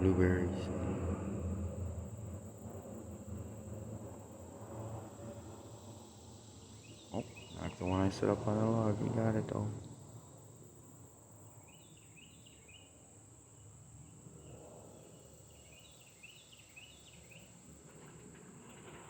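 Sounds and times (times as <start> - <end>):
high-pitched insect drone: 0.0 - 17.9
distant songbird chirping: 0.0 - 19.0.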